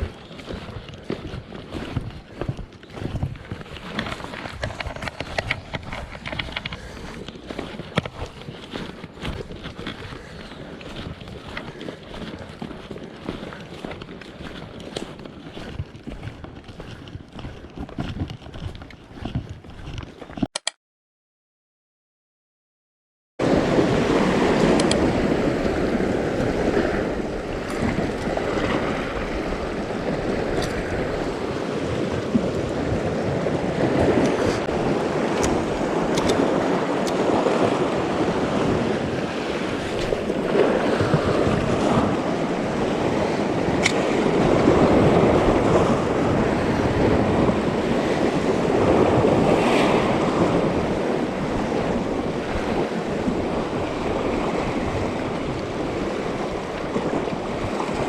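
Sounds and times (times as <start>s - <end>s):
sea waves on rocky shore: 0.0s - 16.2s, 23.4s - 58.0s
wind on microphone: 0.0s - 20.5s, 23.4s - 58.0s.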